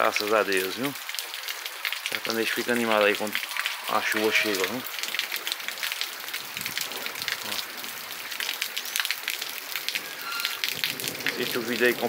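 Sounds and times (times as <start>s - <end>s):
rain on ground and leaves: 0.0s - 12.0s.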